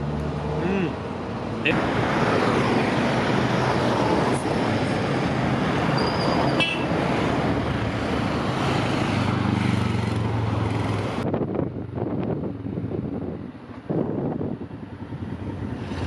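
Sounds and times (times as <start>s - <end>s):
road traffic rush: 0.0s - 16.0s
vehicle engine hum: 0.0s - 16.0s.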